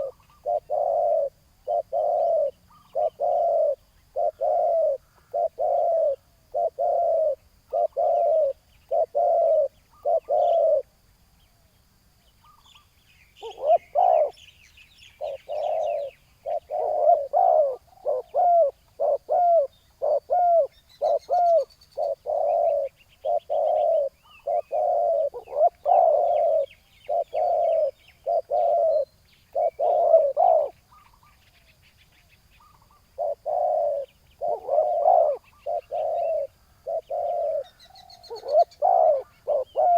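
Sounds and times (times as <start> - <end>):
doves cooing: 0.0 - 11.0, 13.4 - 14.4, 15.1 - 31.6, 32.6 - 39.9
small birds chirping: 0.0 - 39.9.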